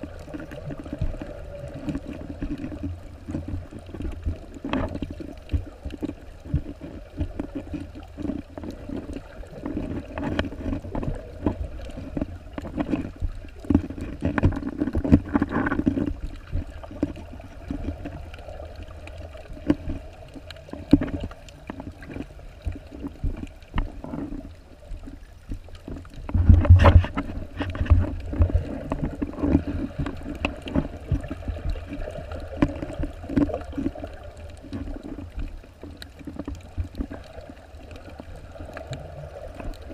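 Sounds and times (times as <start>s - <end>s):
low knocks underwater: 0.0s - 18.5s, 20.7s - 39.9s
muffled water gurgling and sloshing: 0.0s - 39.9s.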